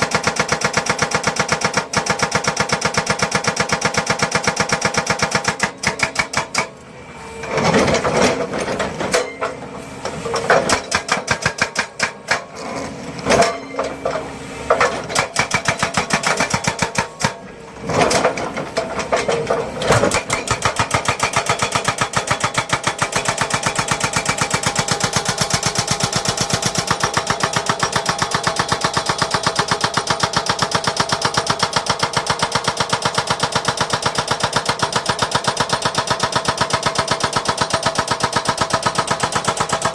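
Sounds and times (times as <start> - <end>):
heavy construction machinery running: 0.0 - 39.9.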